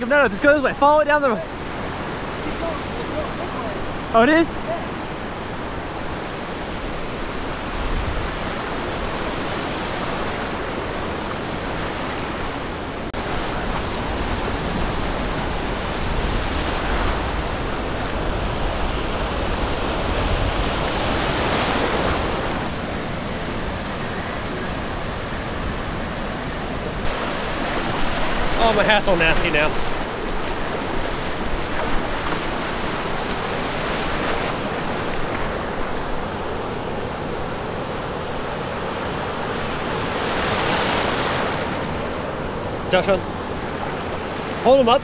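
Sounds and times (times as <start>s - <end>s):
surf breaking on beach: 0.0s - 45.0s.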